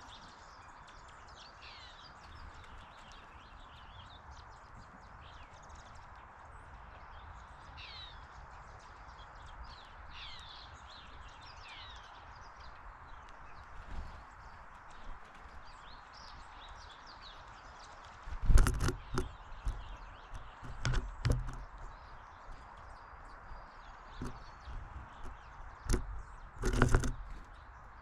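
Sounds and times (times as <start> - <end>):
outdoor background hiss and rumble: 0.0 - 28.0
small birds chirping: 0.0 - 28.0.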